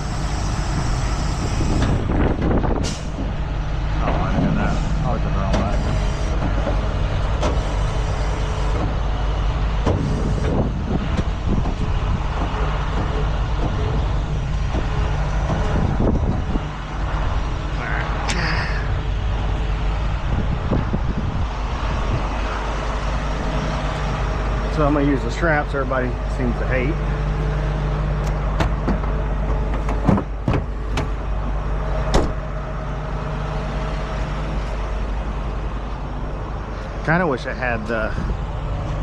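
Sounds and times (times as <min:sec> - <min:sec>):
heavy truck engine running: 0:00.0 - 0:39.0.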